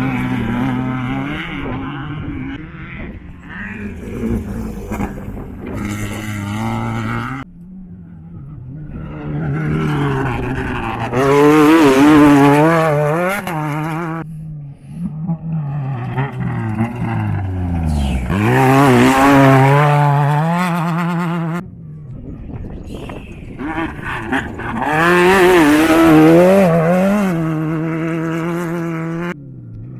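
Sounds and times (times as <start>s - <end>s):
race engines revving hard: 0.0s - 21.7s, 22.9s - 29.9s.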